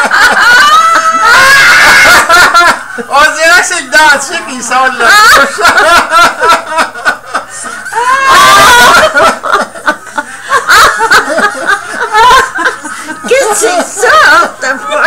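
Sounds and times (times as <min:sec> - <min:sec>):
loud human laughter: 0:00.0 - 0:03.1, 0:05.0 - 0:15.0.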